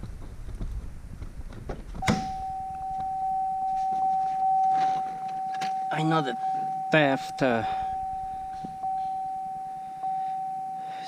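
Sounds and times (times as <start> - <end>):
electronic warning tone: 2.0 - 11.0.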